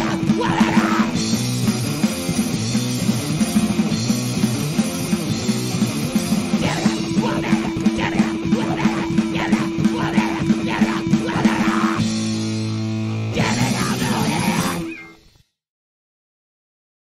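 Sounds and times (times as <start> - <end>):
loud rock music: 0.0 - 15.2.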